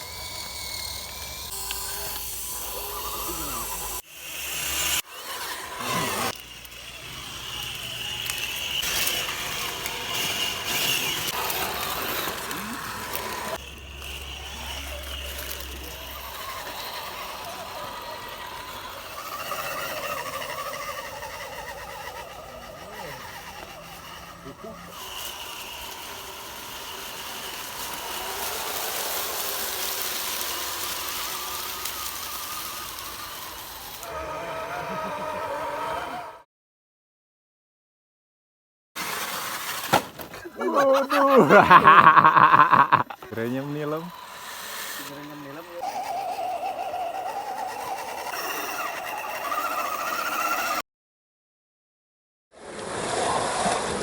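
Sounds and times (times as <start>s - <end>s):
tyres hissing on grit: 0.0s - 34.2s, 39.0s - 50.8s
electric motor and gearbox whining: 0.0s - 36.4s, 39.0s - 50.8s.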